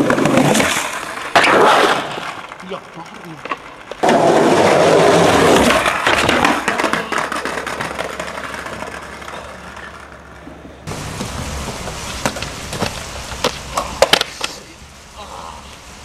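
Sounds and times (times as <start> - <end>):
skateboard clacks: 0.0 - 14.6
skateboard grinding on ledge: 0.0 - 14.6
skateboard wheels rolling: 0.0 - 16.0.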